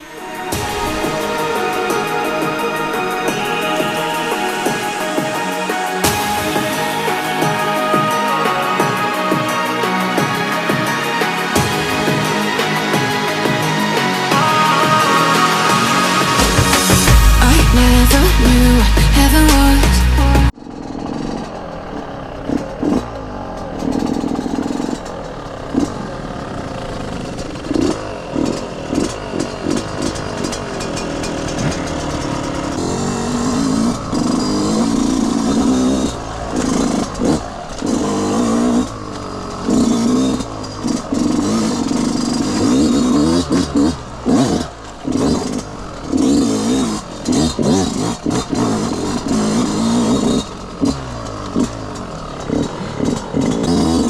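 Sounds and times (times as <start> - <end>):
two-stroke dirt bike revving: 0.0 - 54.0.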